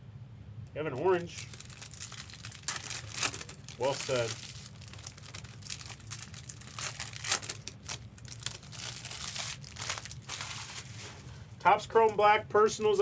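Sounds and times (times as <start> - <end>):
card wrappers crinkling and tearing: 0.9 - 11.4.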